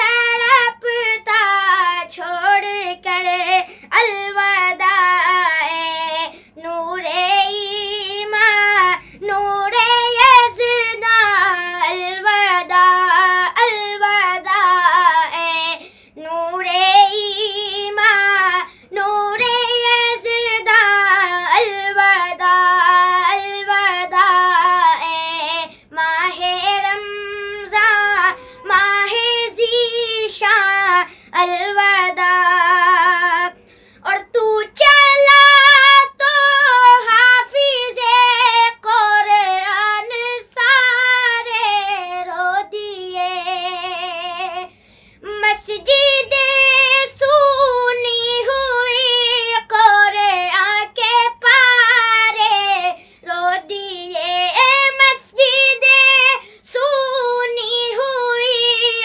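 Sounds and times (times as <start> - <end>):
boy singing unaccompanied: 0.0 - 59.0.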